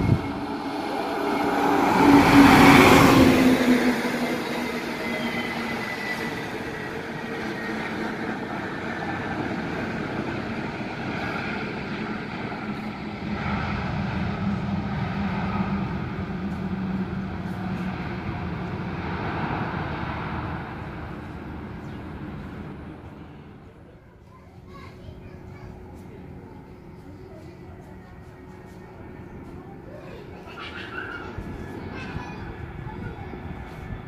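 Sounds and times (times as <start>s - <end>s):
jet engine rumble with whine: 0.0s - 34.0s.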